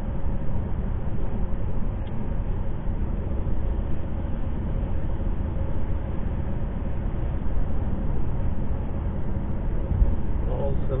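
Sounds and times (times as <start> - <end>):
car engine drone: 0.0 - 11.0
road and tyre noise: 0.0 - 11.0.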